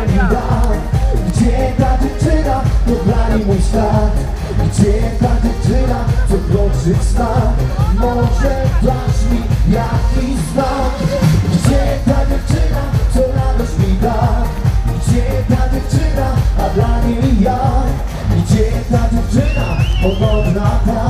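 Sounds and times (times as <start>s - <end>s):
live dance pop song: 0.0s - 21.0s.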